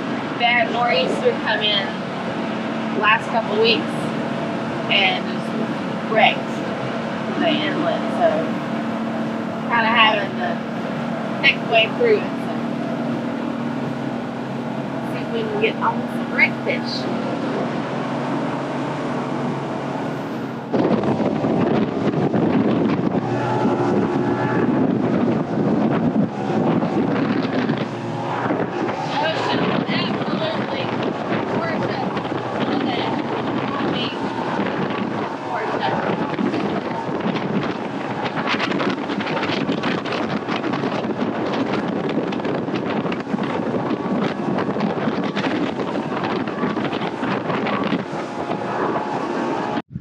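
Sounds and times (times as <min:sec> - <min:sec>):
outboard boat engine: 0:00.0 - 0:50.0
rushing water and spray: 0:00.0 - 0:50.0
wind buffeting microphone: 0:00.0 - 0:50.0.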